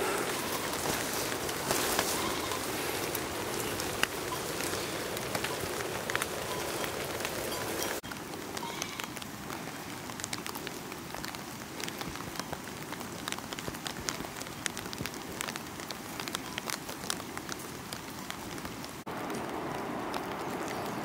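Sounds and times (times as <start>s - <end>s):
light rain pattering on leaves: 0.0s - 21.0s.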